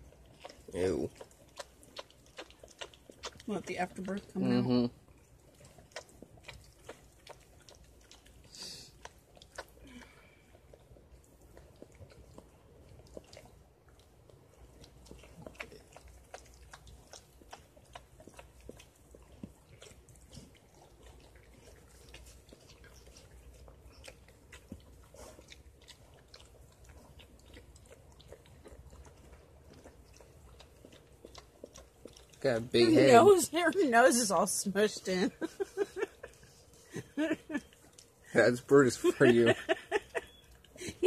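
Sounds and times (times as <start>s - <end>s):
dog licking and chewing: 0.0s - 41.0s.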